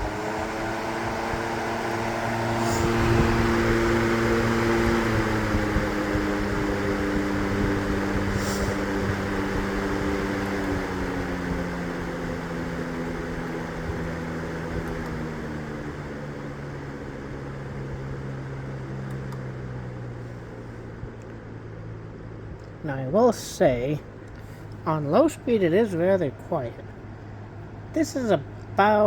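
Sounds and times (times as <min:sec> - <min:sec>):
box fan slowing down: 0:00.0 - 0:29.0.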